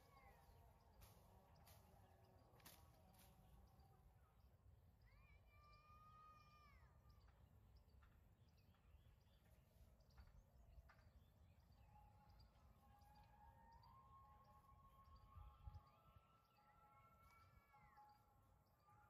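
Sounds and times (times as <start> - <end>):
faint long steady tones: 0.0 - 19.0
faint outdoor ambience: 0.0 - 19.0.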